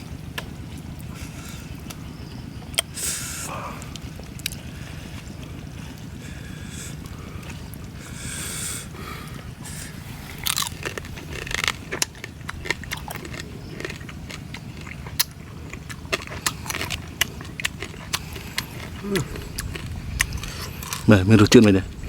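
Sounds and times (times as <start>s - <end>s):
man crunching crab shells: 2.8s - 21.8s.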